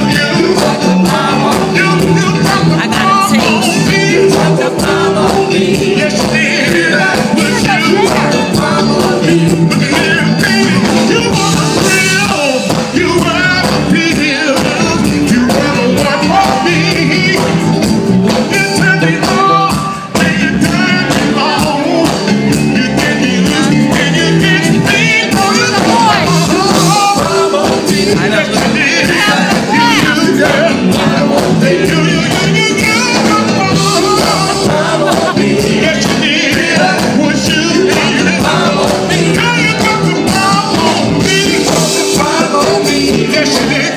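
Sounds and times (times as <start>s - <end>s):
bass guitar: 0.0s - 43.9s
drums: 0.0s - 43.9s
electric guitar: 0.0s - 43.9s
person singing lead vocal: 0.0s - 43.9s.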